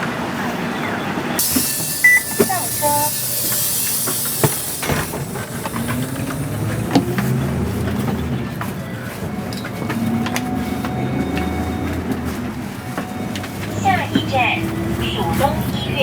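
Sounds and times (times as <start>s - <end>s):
bus body rattling: 0.0s - 16.0s
bus engine humming: 0.0s - 16.0s.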